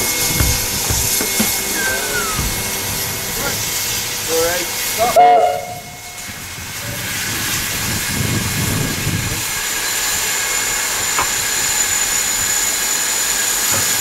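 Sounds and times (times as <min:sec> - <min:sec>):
steam hissing from locomotive: 0:01.7 - 0:14.0.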